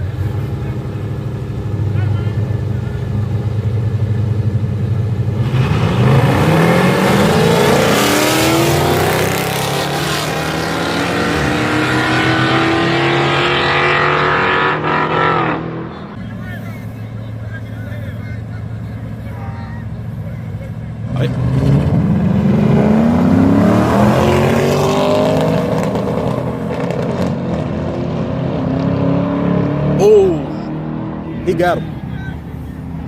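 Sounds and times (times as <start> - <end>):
race car engines accelerating: 0.0 - 33.0.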